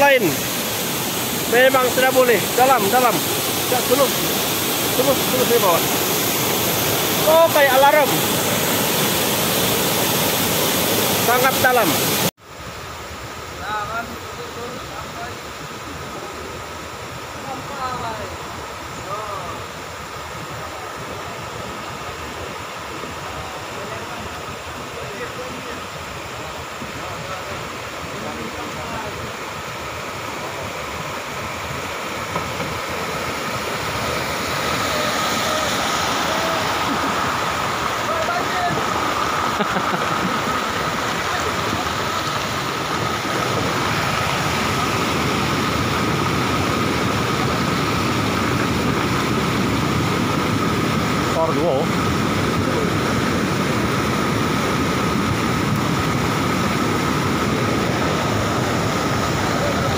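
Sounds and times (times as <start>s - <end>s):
floodwater rushing: 0.0s - 59.9s.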